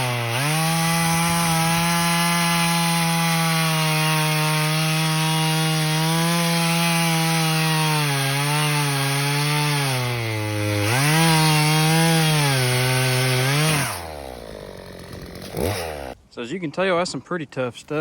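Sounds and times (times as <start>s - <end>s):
chainsaw cutting log: 0.0s - 16.2s.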